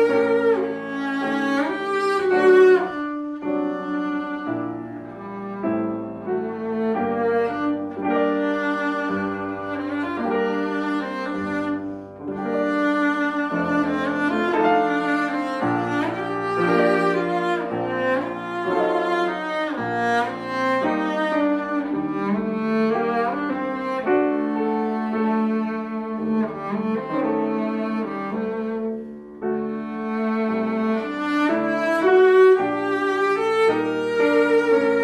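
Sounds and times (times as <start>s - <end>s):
cello: 0.0s - 35.0s
piano accompaniment: 0.0s - 35.0s.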